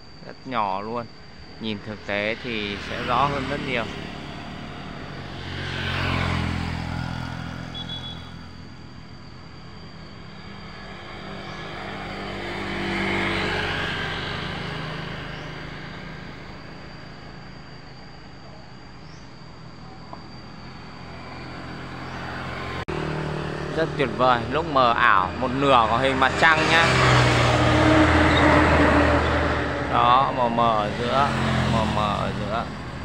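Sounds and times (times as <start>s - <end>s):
low traffic hum: 0.0s - 33.0s
vehicles passing: 0.0s - 33.0s.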